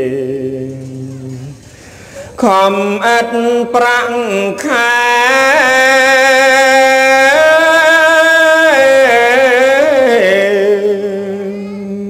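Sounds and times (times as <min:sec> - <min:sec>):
man chanting: 0:00.0 - 0:01.6, 0:02.2 - 0:12.0.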